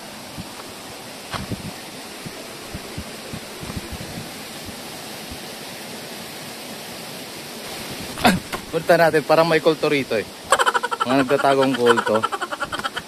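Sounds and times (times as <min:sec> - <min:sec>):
water rushing in stream: 0:00.0 - 0:13.0.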